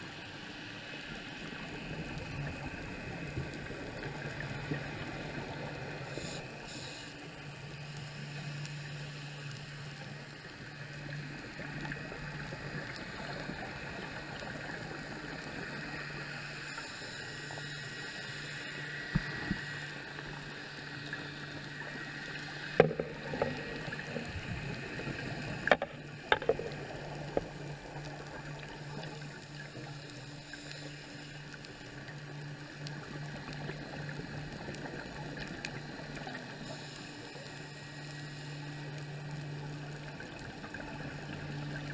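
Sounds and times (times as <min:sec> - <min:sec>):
steady low underwater hum: 0:00.0 - 0:41.9.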